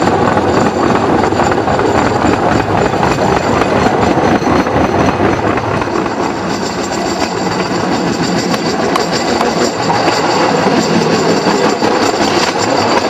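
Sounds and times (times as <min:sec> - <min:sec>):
wheels clattering on track: 0:00.0 - 0:13.0.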